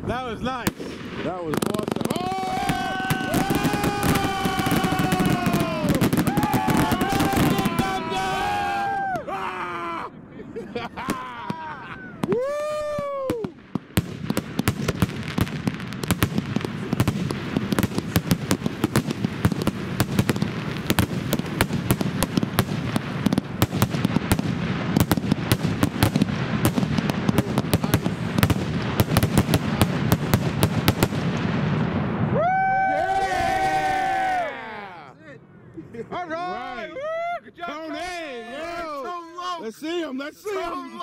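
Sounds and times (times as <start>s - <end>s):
fireworks crackling: 0.0s - 9.2s, 10.7s - 34.5s, 37.6s - 41.0s.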